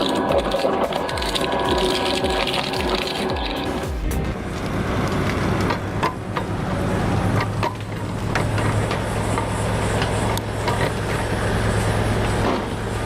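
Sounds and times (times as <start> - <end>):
heavy machine engine humming: 0.0 - 13.0.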